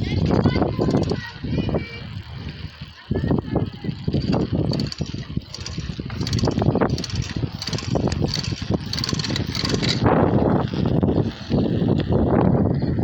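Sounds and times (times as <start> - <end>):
small rattles: 0.0 - 12.2
bicycle riding noise: 0.0 - 13.0
wind buffeting microphone: 0.0 - 13.0.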